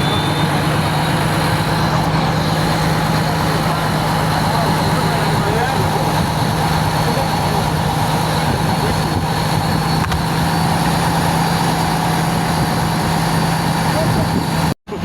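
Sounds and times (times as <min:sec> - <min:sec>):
ship diesel engine droning: 0:00.0 - 0:15.0.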